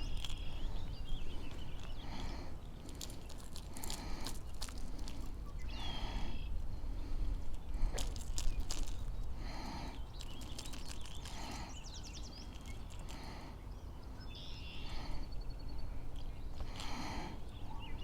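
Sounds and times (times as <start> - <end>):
birds calling: 0.0 - 18.0
steady low rumble: 0.0 - 18.0.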